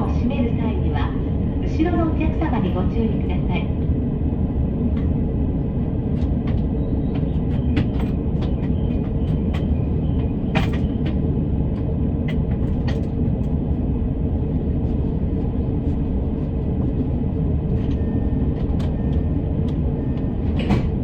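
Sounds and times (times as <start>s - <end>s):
train cabin rumble: 0.0s - 21.0s.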